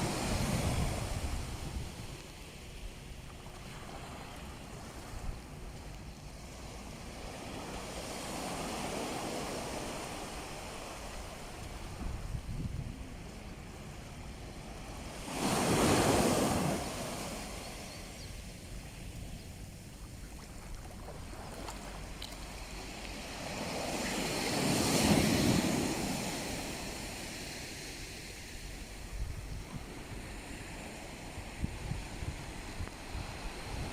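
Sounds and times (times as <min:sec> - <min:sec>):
wind rumble on microphone: 0:00.0 - 0:17.2, 0:18.2 - 0:33.9
waves breaking on shore: 0:00.0 - 0:33.9.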